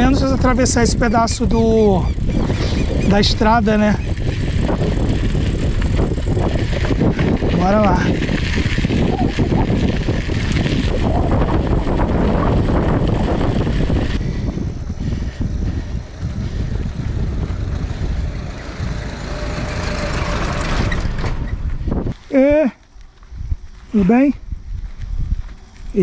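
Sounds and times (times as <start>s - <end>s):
tyres rolling on dirt road: 0.0s - 23.9s
wind buffeting microphone: 0.0s - 26.0s.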